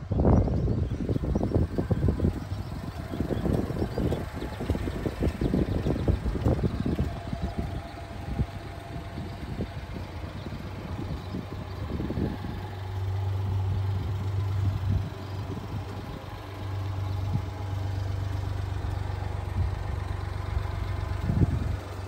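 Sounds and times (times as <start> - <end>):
small engine idling: 0.1 - 22.0.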